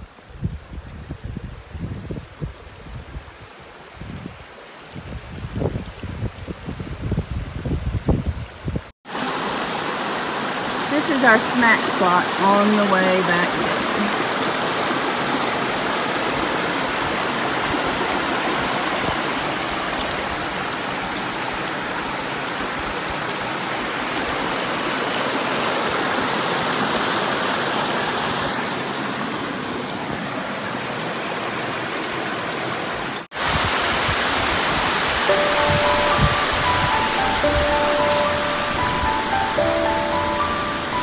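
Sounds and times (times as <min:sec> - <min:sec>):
creek rushing over rocks: 0:00.0 - 0:41.0.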